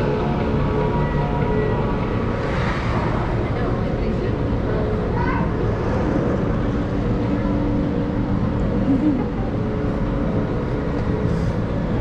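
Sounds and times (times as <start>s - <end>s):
low rumble of indoor hall: 0.0s - 12.0s
murmur of distant voices: 0.0s - 12.0s.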